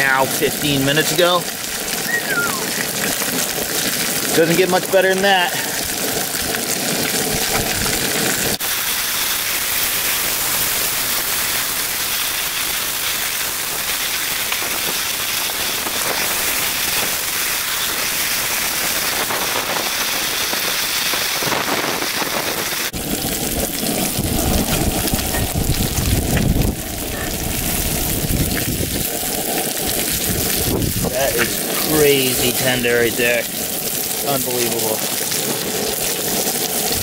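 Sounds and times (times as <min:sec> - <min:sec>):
fish frying in a skillet: 0:00.0 - 0:37.0.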